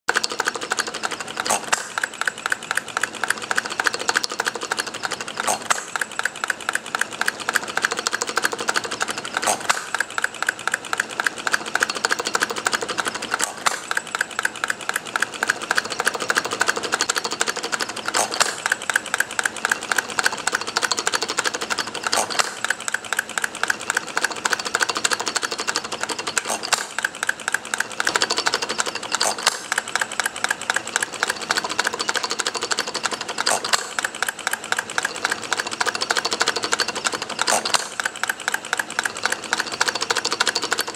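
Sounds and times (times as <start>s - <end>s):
engine firing stroke: 0.1s - 40.9s
small engine clattering: 0.1s - 40.9s.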